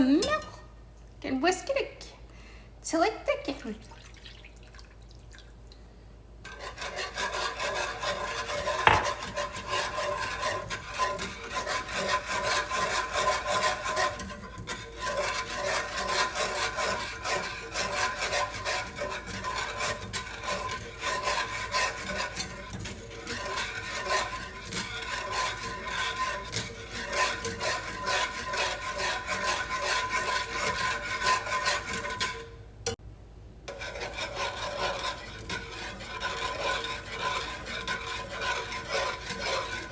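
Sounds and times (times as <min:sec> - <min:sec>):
whisk scraping around a pan: 0:06.4 - 0:33.0, 0:33.7 - 0:39.9.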